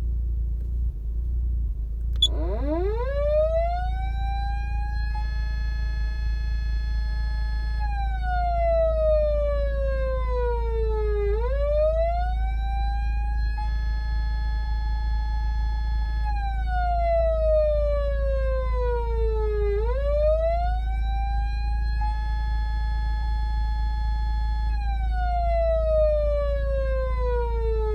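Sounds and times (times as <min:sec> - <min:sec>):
steady low hum: 0:00.0 - 0:27.9
electronic siren wailing: 0:02.2 - 0:27.9.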